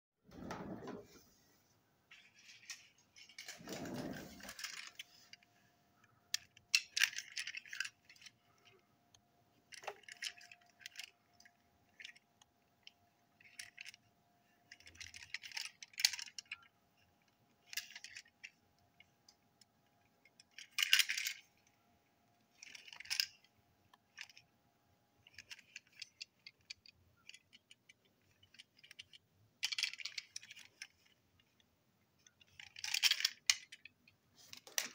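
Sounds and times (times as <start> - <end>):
plastic toy wagons clicking: 2.1 - 8.8, 9.6 - 21.7, 22.4 - 24.5, 25.2 - 34.9.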